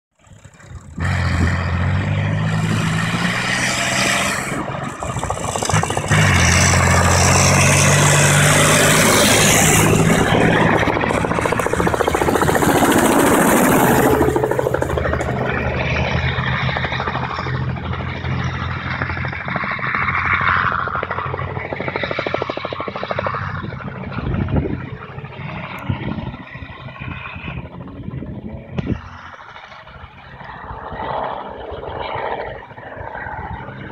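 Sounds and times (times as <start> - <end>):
diesel engine droning: 0.1 - 33.9
helicopter flying low: 0.1 - 33.9.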